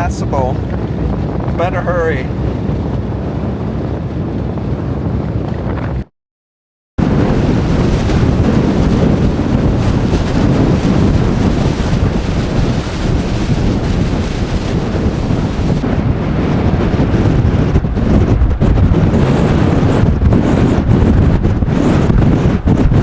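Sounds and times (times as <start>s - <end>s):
strong wind against microphone: 0.0s - 6.1s, 7.0s - 23.0s.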